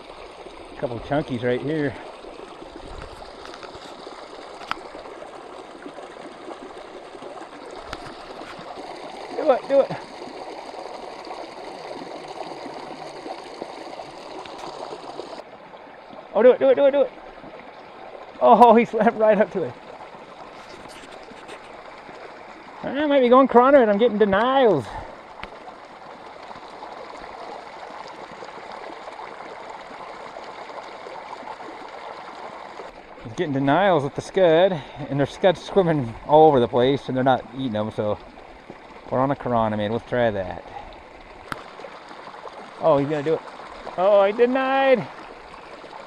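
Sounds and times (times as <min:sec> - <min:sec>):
running water: 0:00.0 - 0:46.0
stream trickling over rocks: 0:00.0 - 0:46.0.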